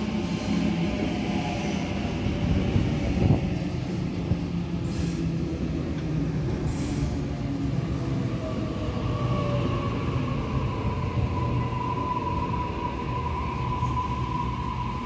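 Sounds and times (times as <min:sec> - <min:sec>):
train rumbling along platform: 0:00.0 - 0:15.0.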